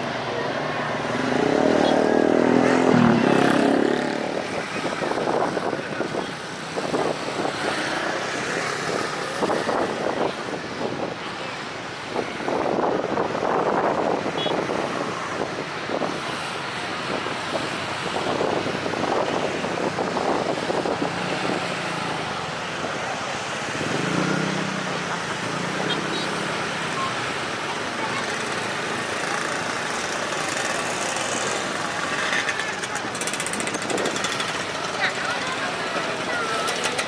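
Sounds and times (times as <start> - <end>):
road traffic: 0.0 - 37.0.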